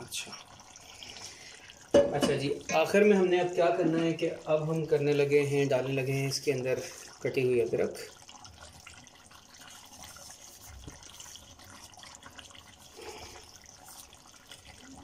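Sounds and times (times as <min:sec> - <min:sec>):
curry sizzling and bubbling: 0:00.0 - 0:15.0.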